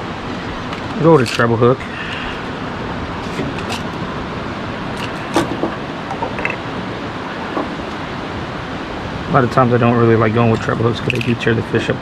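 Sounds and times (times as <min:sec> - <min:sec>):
beach surf: 0:00.0 - 0:12.0
wind: 0:00.0 - 0:12.0.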